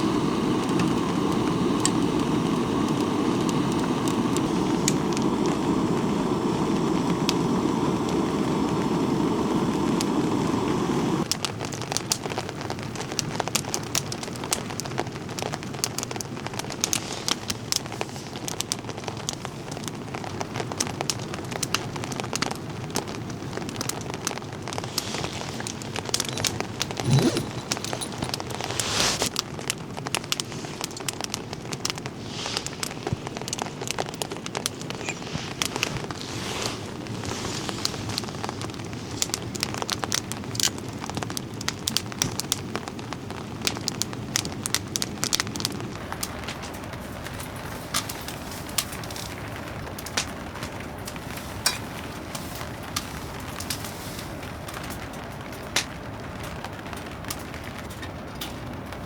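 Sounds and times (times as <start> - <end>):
rain hiss: 0.0 - 59.0
wood fire crackling and popping: 0.0 - 59.0.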